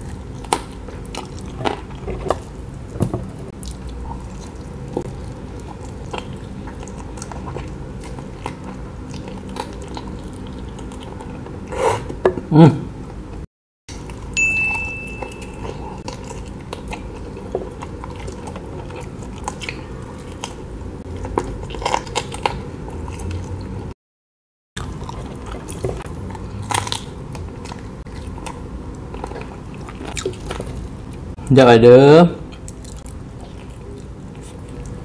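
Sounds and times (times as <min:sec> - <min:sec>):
chewing and biting: 0:00.0 - 0:12.2, 0:15.2 - 0:23.9, 0:24.8 - 0:31.3, 0:32.5 - 0:35.0.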